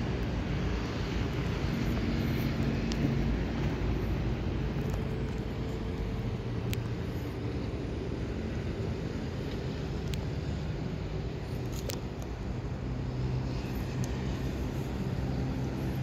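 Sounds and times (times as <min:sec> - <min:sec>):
faint engine hum: 0:00.0 - 0:16.0
road traffic rumble: 0:00.0 - 0:16.0.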